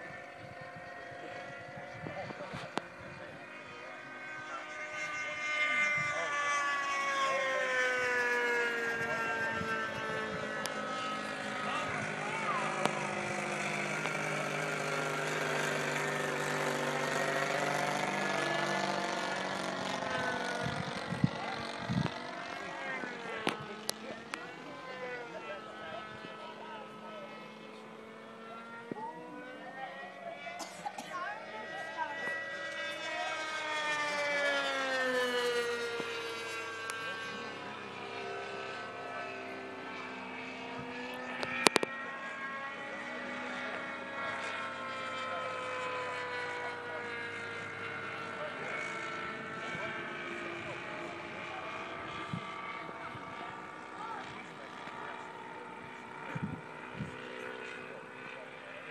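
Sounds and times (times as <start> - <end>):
model airplane engine drone: 0.0 - 58.9.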